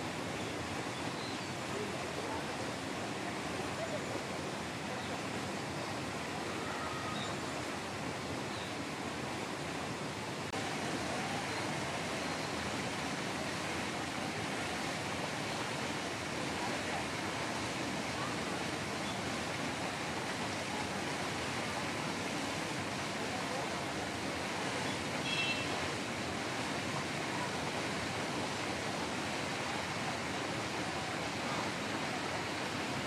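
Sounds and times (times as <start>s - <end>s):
steady hissing noise: 0.0s - 33.0s
faint distant voices: 0.8s - 8.7s, 10.5s - 33.0s.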